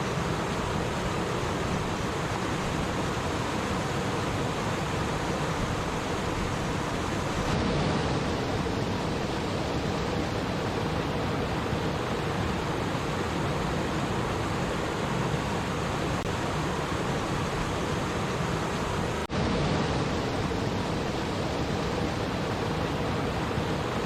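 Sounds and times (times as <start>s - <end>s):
stream water rushing and babbling: 0.0s - 24.0s.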